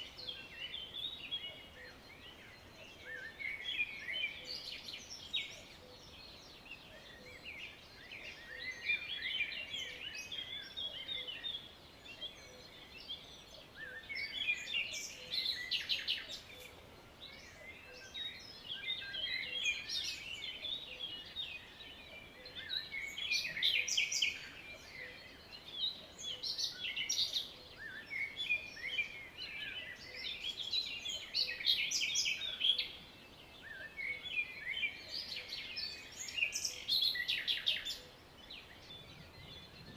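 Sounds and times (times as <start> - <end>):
faint outdoor hiss: 0.0 - 39.9
songbirds chirping: 0.0 - 39.9.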